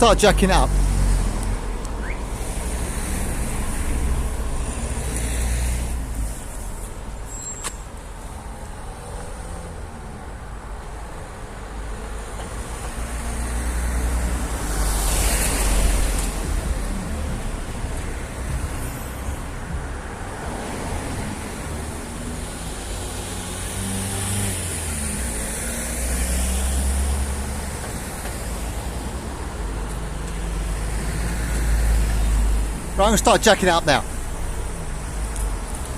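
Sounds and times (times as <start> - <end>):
cars passing: 0.0 - 35.9
low traffic rumble: 0.0 - 35.9.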